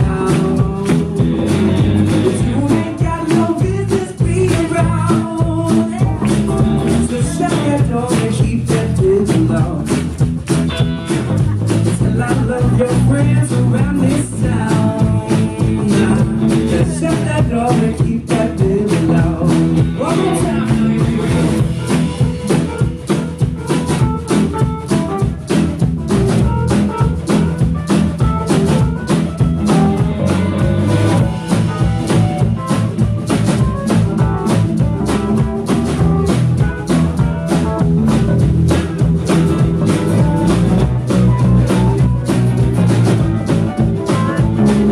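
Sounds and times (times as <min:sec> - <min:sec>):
acoustic guitar: 0:00.0 - 0:44.9
drum kit steady beat: 0:00.0 - 0:44.9
electric bass: 0:00.0 - 0:44.9
electric guitar: 0:00.0 - 0:44.9.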